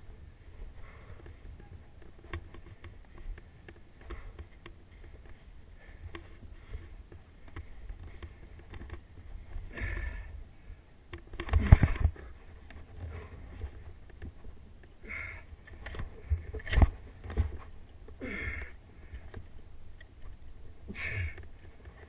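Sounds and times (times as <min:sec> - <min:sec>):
wind rumble on microphone: 0:00.0 - 0:18.2.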